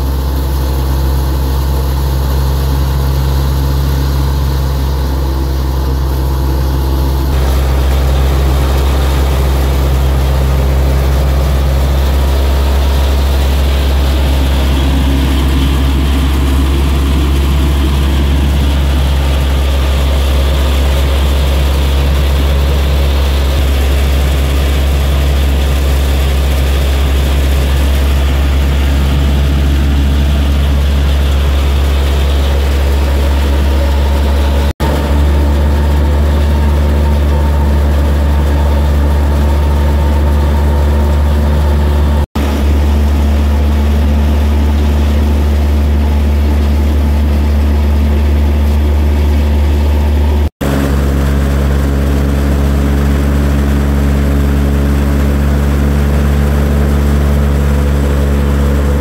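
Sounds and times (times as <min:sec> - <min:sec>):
thresher machine droning: 0:00.0 - 0:59.0.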